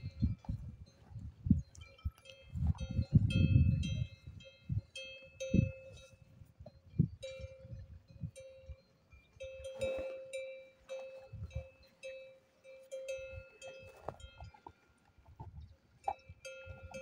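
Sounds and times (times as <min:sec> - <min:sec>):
cowbells clanking: 0:00.0 - 0:17.0.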